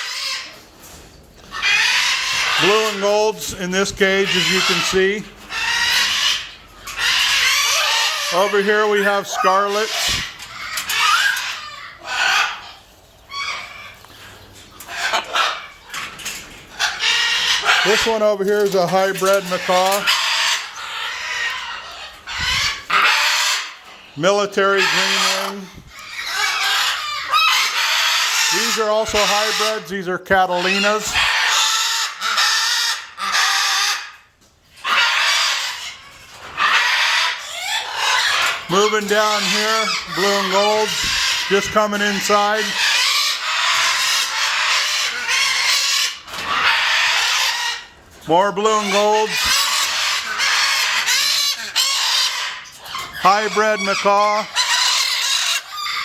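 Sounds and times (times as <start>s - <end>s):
parrots squawking: 0.0s - 0.6s, 1.4s - 56.0s.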